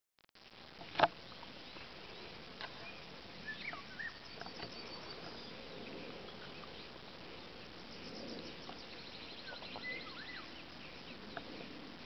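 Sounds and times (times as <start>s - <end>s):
background hiss: 0.4s - 12.0s.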